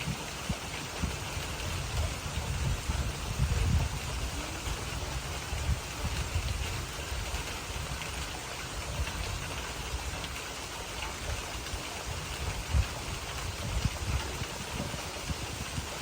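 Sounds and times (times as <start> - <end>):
steady rain falling: 0.0 - 16.0
wind gusts hitting microphone: 0.0 - 16.0.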